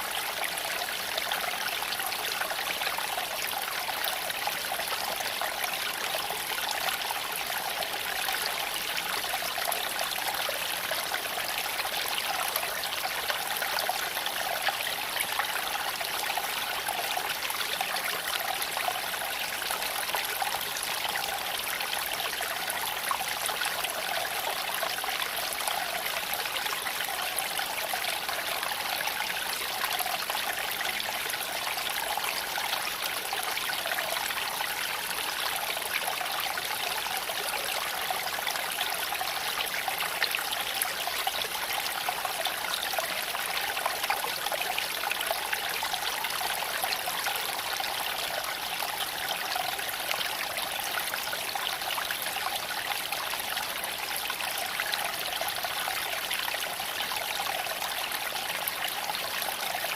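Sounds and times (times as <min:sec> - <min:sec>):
creek water flowing over stones: 0:00.0 - 0:59.9.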